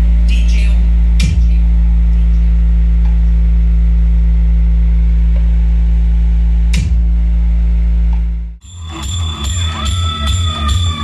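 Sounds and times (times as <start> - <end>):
deep bass tone from speakers: 0.0 - 11.0.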